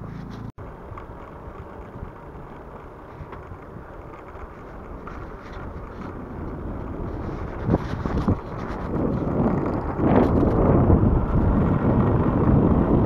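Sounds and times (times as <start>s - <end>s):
wind buffeting microphone: 0.6s - 13.0s.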